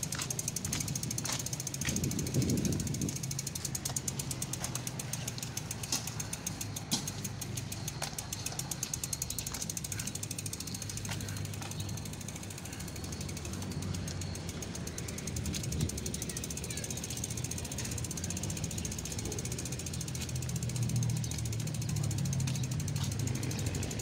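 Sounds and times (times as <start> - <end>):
bicycle freewheel hub ticking: 0.0 - 24.0.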